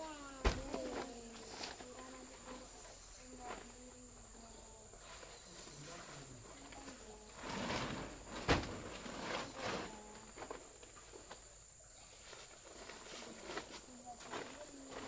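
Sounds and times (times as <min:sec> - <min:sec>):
insects trilling: 0:00.0 - 0:15.0
rustling and handling noises: 0:00.2 - 0:11.5, 0:12.1 - 0:15.0.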